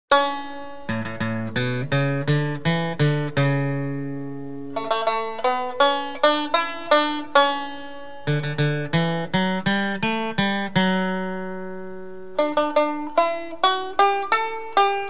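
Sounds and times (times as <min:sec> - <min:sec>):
plucked string melody: 0:00.1 - 0:15.0.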